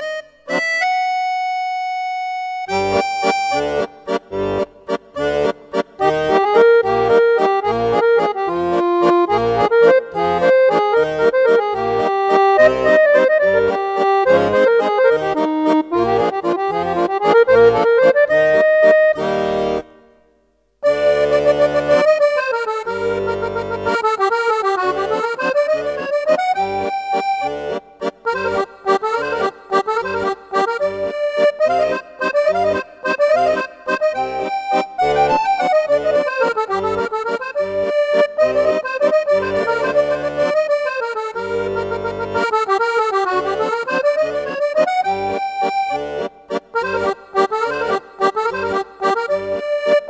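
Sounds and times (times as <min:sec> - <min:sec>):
accordion tune: 0:00.0 - 0:50.0.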